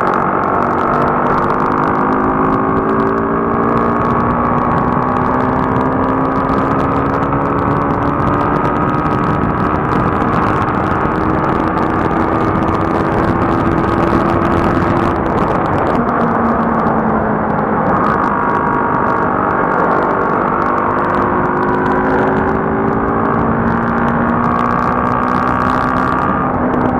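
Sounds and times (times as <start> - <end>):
motorcycle engine cruising: 0.0 - 26.9
wind and road noise: 0.0 - 26.9.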